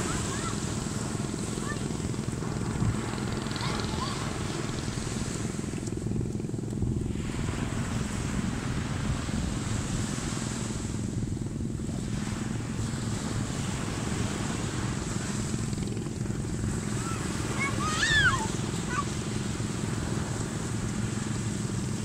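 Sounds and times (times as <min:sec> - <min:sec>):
ocean surf washing: 0:00.0 - 0:22.0
wind on microphone: 0:00.0 - 0:22.0.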